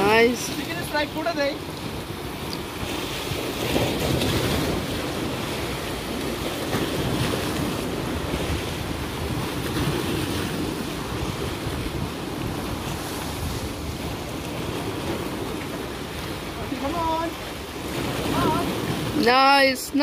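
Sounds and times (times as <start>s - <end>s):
sea waves washing against rocks: 0.0s - 20.0s
wind buffeting microphone: 0.0s - 20.0s.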